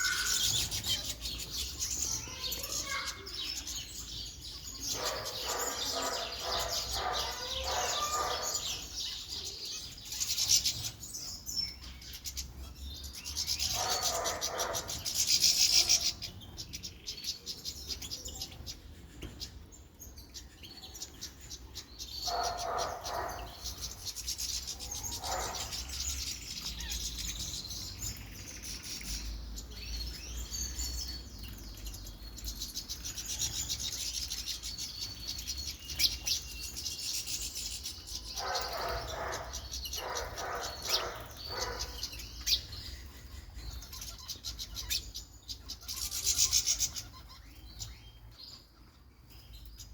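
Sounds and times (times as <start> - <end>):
songbirds chirping and twittering: 0.0 - 49.9.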